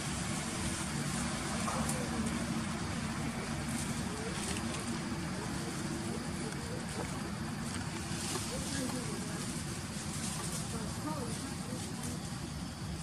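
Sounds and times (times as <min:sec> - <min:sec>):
steady low hum: 0:00.0 - 0:13.0
faint voices: 0:01.1 - 0:13.0.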